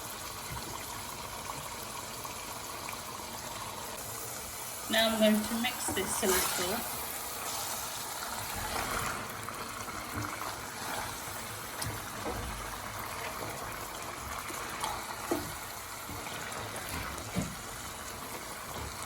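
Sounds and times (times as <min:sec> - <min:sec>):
sauce bubbling in pot: 0:00.0 - 0:19.0.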